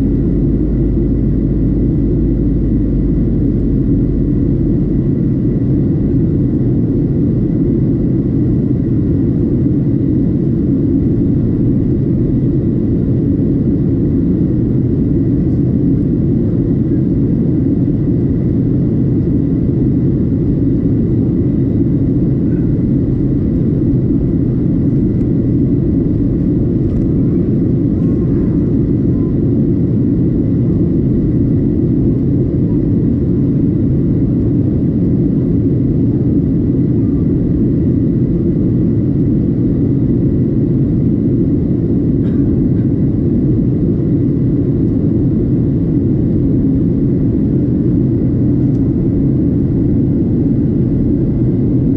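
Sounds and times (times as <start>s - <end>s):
engine and airflow rumble: 0.0s - 51.9s.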